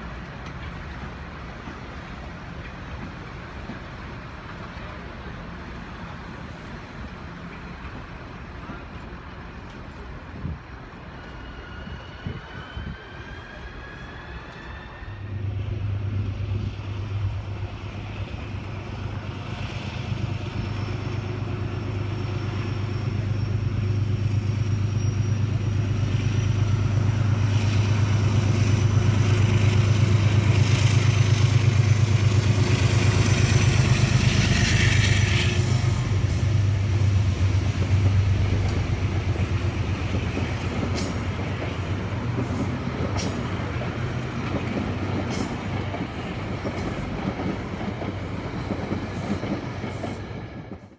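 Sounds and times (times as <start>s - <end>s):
diesel locomotive engine hum: 0.0s - 50.9s
electric train whine: 0.0s - 50.9s
wheels rumbling on rails: 0.0s - 50.9s.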